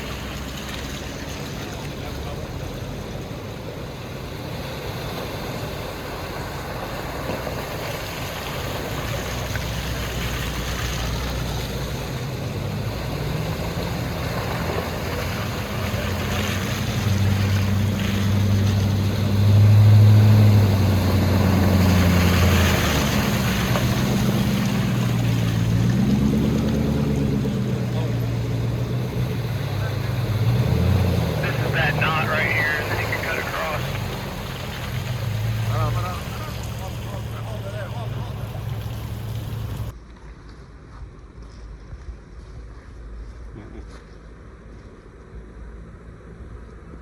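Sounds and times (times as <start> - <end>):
off-road vehicle engine revving: 0.0 - 39.9
water rushing and splashing: 0.0 - 39.9.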